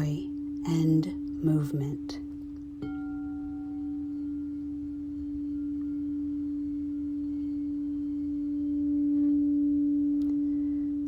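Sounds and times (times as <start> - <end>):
fainter higher tone: 0.0 - 11.0
singing bowl low tone: 0.0 - 11.0.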